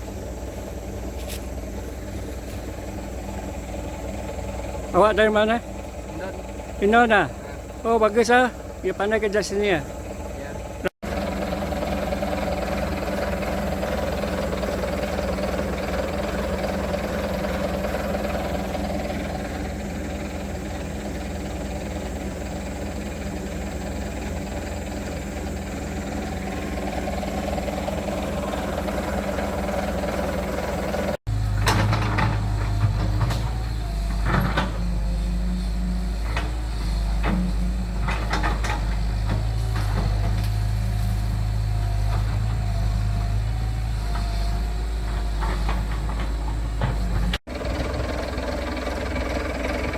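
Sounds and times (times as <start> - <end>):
heavy machinery engine drone: 0.0 - 49.9.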